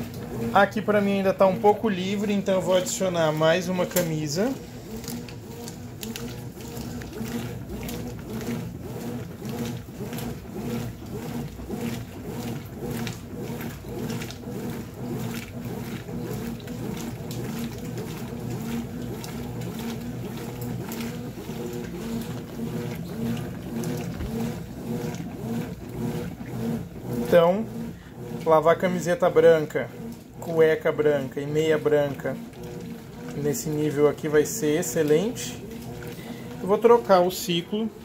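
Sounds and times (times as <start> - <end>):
washing machine motor hum: 0.0 - 38.0
water and clothes sloshing: 0.0 - 38.0.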